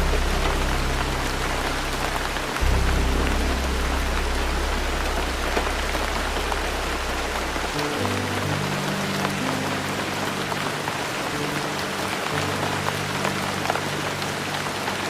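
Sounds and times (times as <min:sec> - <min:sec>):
soft instrumental ballad music: 0:00.0 - 0:15.0
steady rain: 0:00.0 - 0:15.0.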